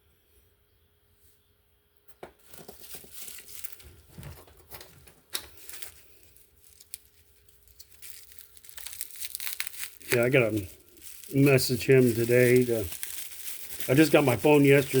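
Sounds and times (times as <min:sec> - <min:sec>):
packaging crinkling and rustling: 0:02.4 - 0:15.0.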